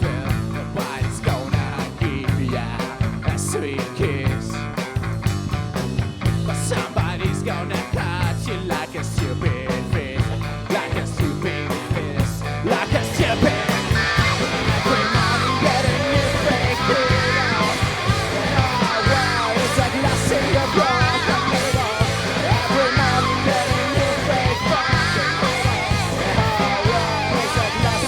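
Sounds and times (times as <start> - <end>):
guitar rock band: 0.0 - 28.0.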